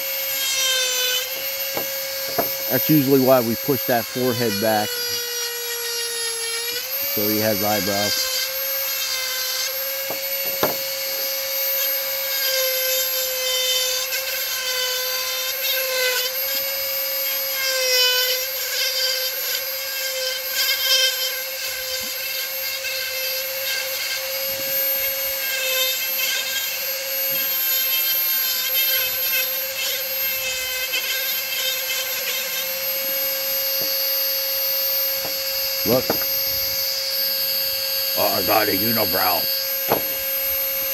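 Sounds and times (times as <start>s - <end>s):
rotary tool whining: 0.0s - 40.9s.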